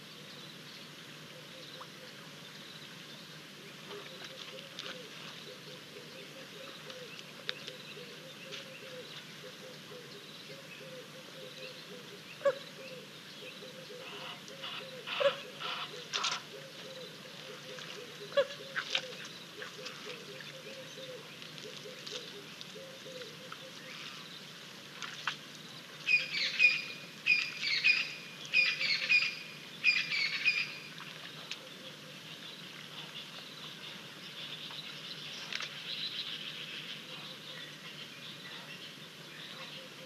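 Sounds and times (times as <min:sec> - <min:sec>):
faint steady hiss: 0:00.0 - 0:40.0.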